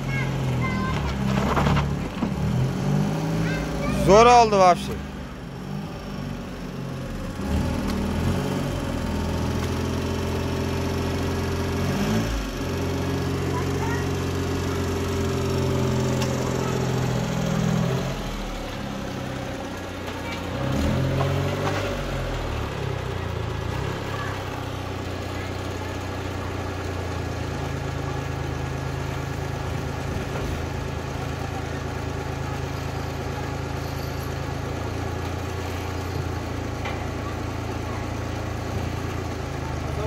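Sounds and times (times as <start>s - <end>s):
front loader engine running: 0.0s - 40.0s.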